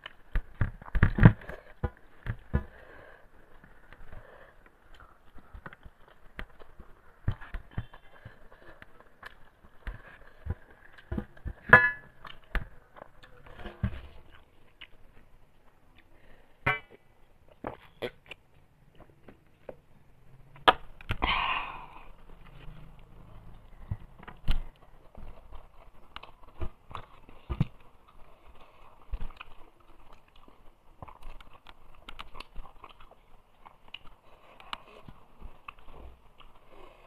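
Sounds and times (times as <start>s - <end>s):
chewing: 0.0s - 19.7s, 22.2s - 37.0s.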